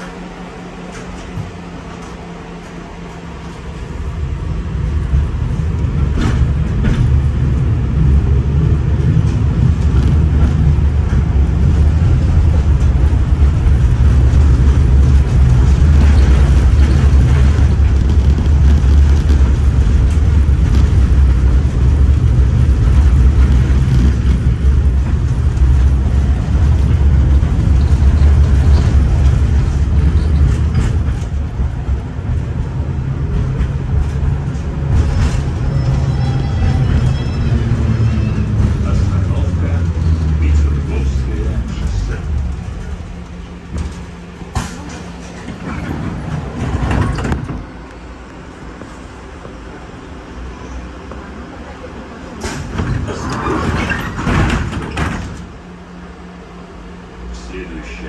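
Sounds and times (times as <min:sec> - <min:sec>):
tram wheels rumbling on rails: 0:00.0 - 0:58.0.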